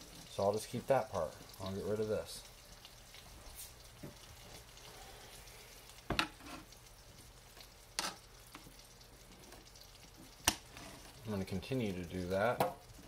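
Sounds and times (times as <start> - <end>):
butter sizzling in skillet: 0.0 - 13.0.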